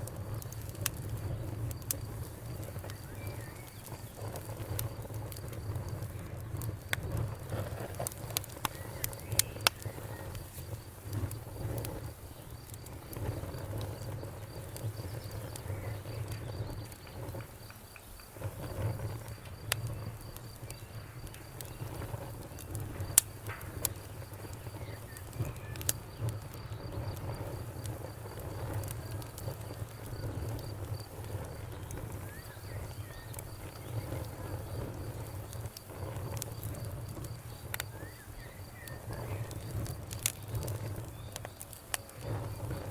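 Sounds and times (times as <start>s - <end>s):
campfire crackling: 0.0s - 42.9s
crickets chirping: 0.0s - 42.9s.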